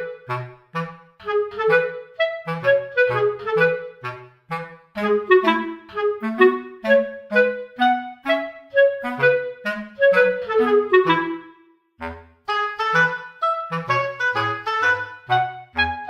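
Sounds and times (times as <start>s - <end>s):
woodwind playing bouncy notes: 0.0s - 16.0s.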